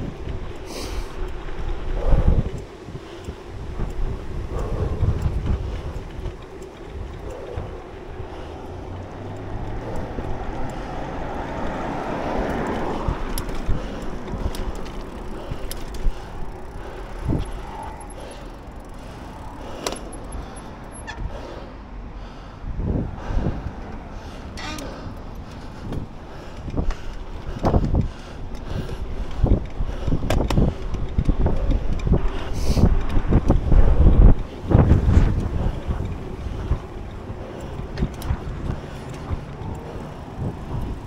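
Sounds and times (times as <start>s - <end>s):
bike clicks and knocks: 0.0s - 21.6s, 23.4s - 41.0s
wind buffeting microphone: 0.0s - 41.0s.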